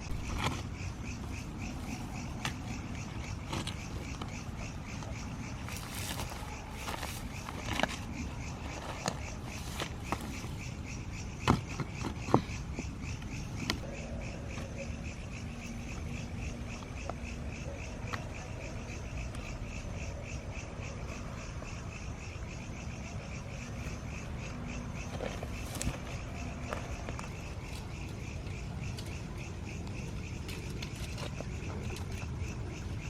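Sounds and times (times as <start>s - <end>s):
animals chirping in pulses: 0.0s - 33.0s.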